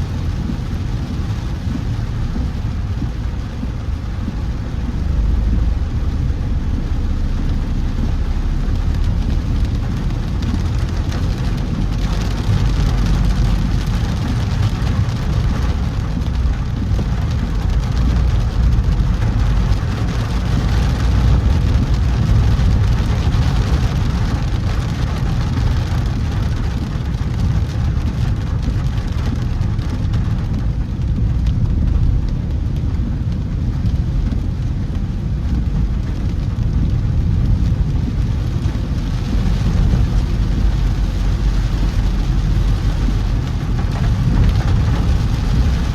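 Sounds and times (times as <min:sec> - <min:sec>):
car road and engine rumble: 0:00.0 - 0:45.9
rain hiss: 0:00.0 - 0:45.9.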